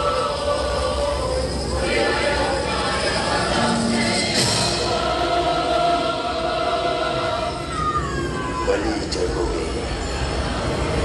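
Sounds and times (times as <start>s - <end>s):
choir singing music: 0.0s - 11.0s.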